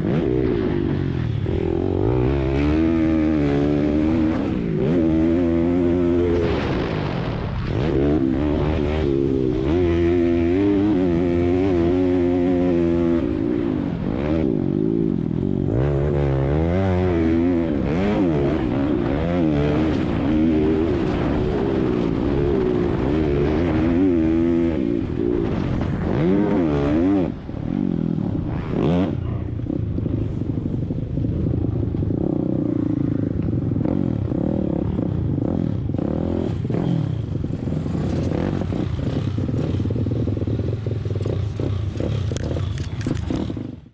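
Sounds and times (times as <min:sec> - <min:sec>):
motorbike engines revving: 0:00.0 - 0:43.9.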